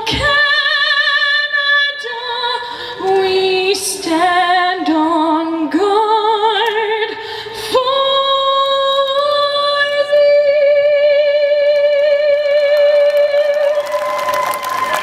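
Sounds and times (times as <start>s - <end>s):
woman singing with vibrato: 0.0s - 14.4s.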